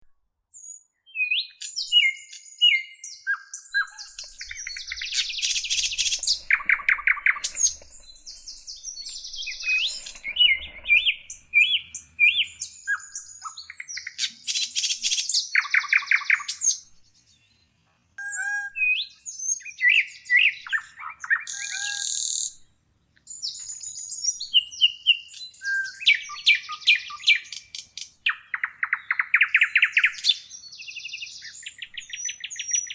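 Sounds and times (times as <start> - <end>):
songbirds singing: 0.5 - 32.9
bird trills: 1.2 - 16.9, 18.2 - 22.6, 23.4 - 32.9.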